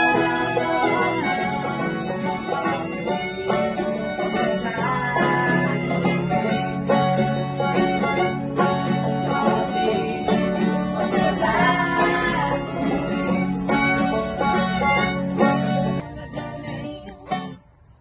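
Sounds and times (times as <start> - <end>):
plucked string music: 0.0 - 18.0.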